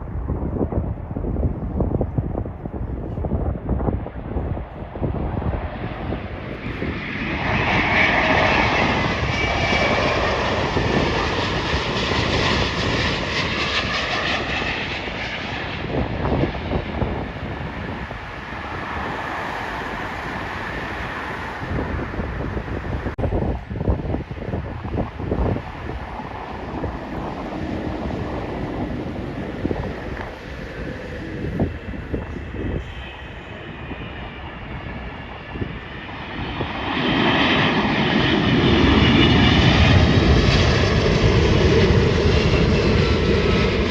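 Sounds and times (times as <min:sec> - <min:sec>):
jet airliner passing: 0:00.0 - 0:43.9
wind rumble on microphone: 0:00.0 - 0:43.9.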